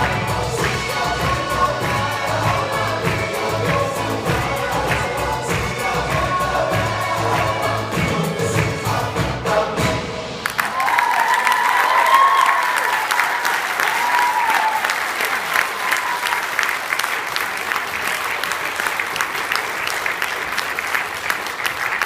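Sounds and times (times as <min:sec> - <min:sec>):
audience clapping: 0:00.0 - 0:08.9, 0:10.4 - 0:22.0.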